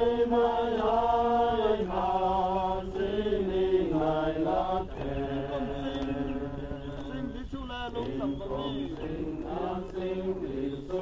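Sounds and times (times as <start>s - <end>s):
men singing a hymn: 0.0s - 11.0s.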